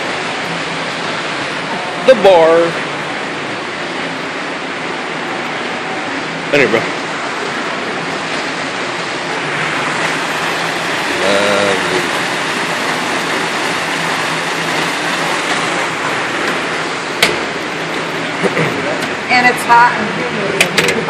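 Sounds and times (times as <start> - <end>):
waterfall rushing: 0.0 - 20.3.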